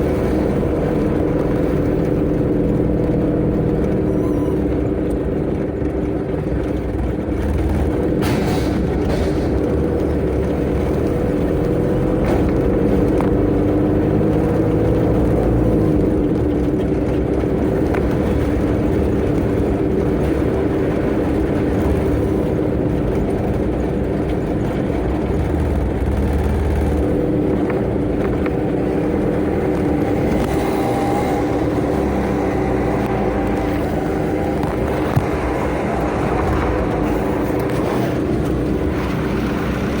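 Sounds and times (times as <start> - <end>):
road and tyre noise: 0.0 - 40.0
truck engine droning: 0.0 - 40.0.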